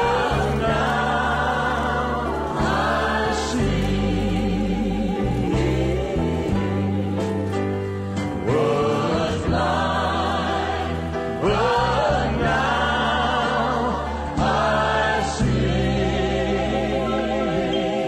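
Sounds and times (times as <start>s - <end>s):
choir singing gospel: 0.0s - 18.0s.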